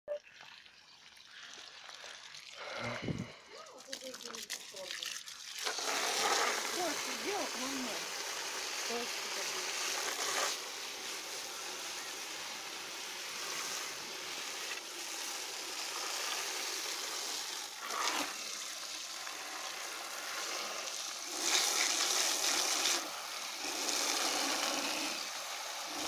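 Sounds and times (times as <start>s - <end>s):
water spraying on metal: 3.7s - 26.0s.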